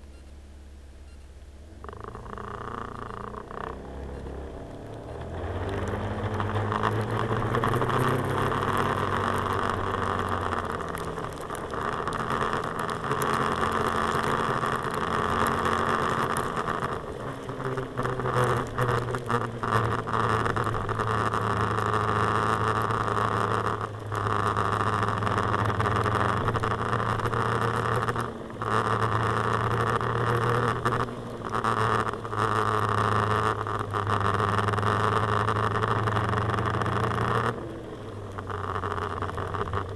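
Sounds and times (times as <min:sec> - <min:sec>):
wind and road noise: 0:00.0 - 0:39.9
scooter engine running: 0:01.6 - 0:39.9.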